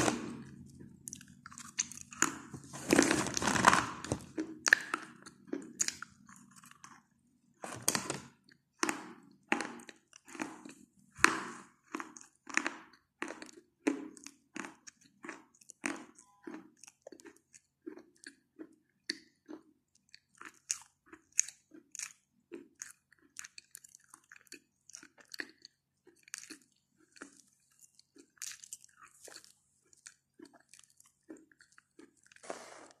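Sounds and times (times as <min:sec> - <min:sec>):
chewing chalk crunches: 0:00.0 - 0:07.2, 0:07.8 - 0:33.0.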